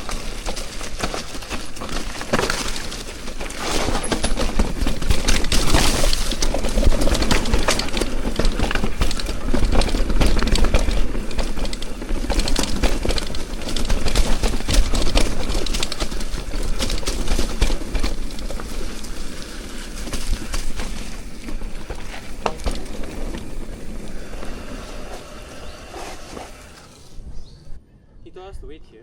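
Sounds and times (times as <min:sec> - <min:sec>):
bike clattering on dirt trail: 0:00.0 - 0:27.2.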